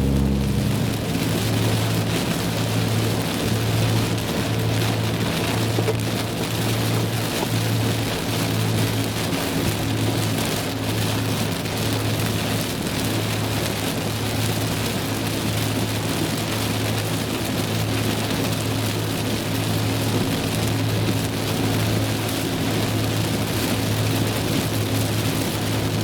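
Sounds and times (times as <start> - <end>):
engine and road hum: 0.0 - 26.0
heavy rain on a car: 0.0 - 26.0.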